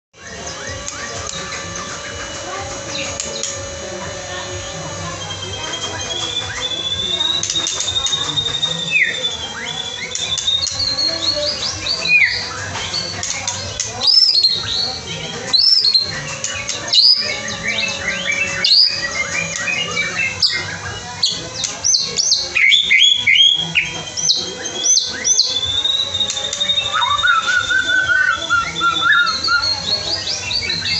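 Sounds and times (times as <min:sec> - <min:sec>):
long steady whistled note: 0:00.2 - 0:30.9
songbirds chirping and singing: 0:00.2 - 0:30.9.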